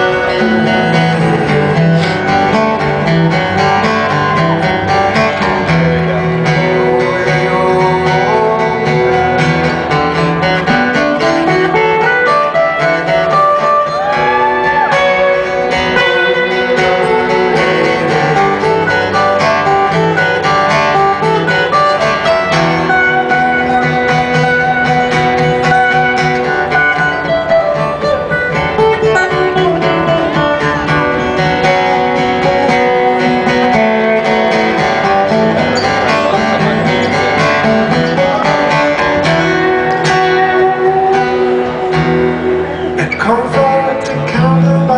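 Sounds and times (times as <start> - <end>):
acoustic guitars playing: 0.0 - 44.9.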